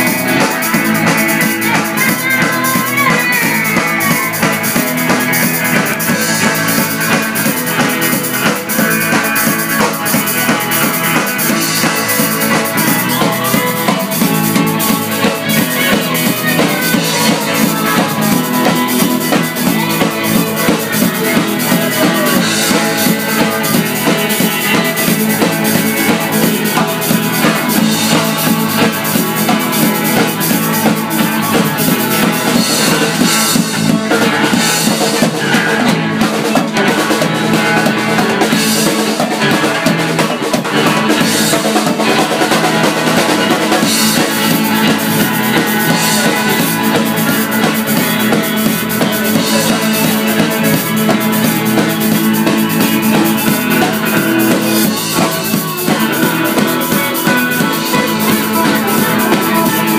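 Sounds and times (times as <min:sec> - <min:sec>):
fast drum beat: 0:00.0 - 0:59.9
small live band playing: 0:00.0 - 0:59.9.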